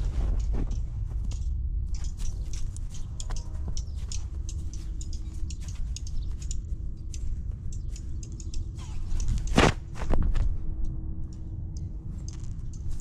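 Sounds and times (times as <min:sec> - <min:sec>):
rapid small clicks: 0:00.1 - 0:13.0.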